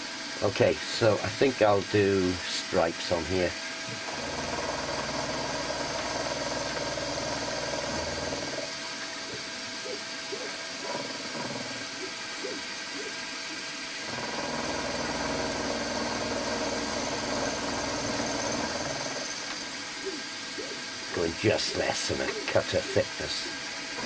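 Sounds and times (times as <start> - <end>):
milling machine cutting metal: 0.4 - 24.0.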